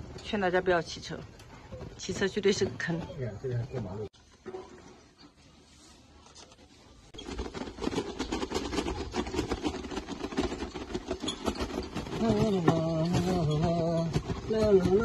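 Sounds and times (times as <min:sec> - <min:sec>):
cart rattling over stone paving: 0:00.0 - 0:05.6, 0:06.3 - 0:15.0.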